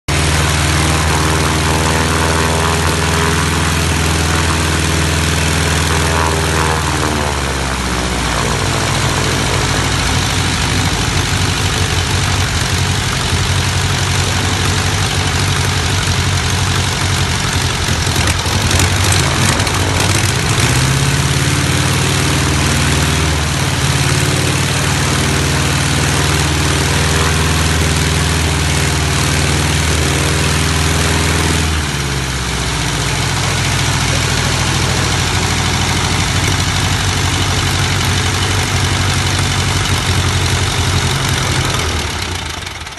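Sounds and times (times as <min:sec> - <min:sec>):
aircraft engine running: 0:00.1 - 0:42.9.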